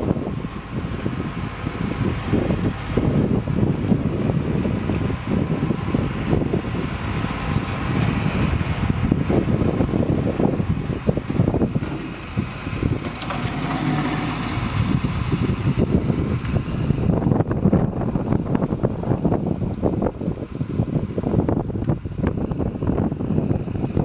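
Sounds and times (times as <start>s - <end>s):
lorry engine low rumble: 0.0s - 24.0s
wind on microphone: 0.0s - 24.0s.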